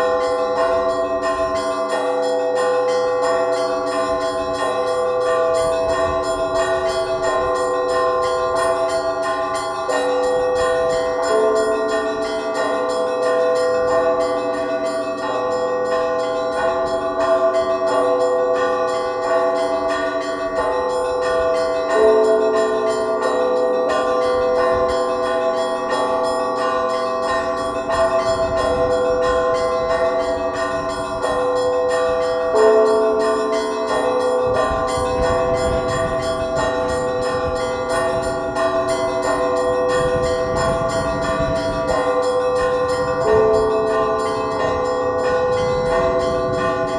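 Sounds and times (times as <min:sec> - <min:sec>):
deep bell tolling: 0:00.0 - 0:46.9
small church bells pealing: 0:00.0 - 0:46.9.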